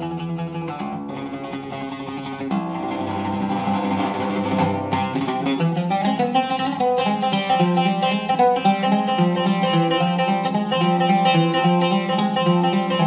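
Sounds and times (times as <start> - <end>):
oud plucked strings: 0.0 - 13.0.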